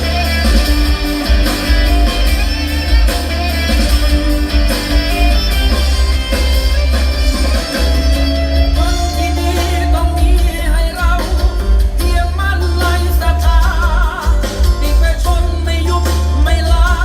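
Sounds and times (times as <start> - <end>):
guitar song with deep bass: 0.0 - 17.0.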